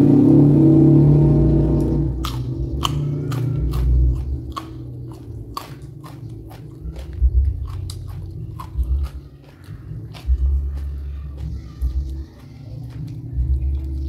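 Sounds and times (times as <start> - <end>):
steady low rumble: 0.0 - 14.0
crunchy chewing of raw vegetables: 1.7 - 14.0.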